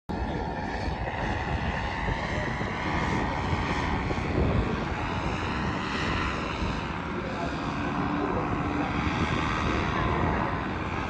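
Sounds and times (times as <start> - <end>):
paramotor engine and propeller: 0.1 - 11.0
wind buffeting microphone: 0.1 - 11.0.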